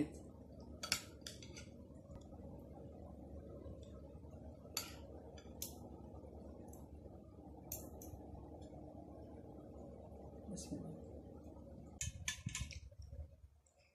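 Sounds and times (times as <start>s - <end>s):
low room hum: 0.0s - 13.9s.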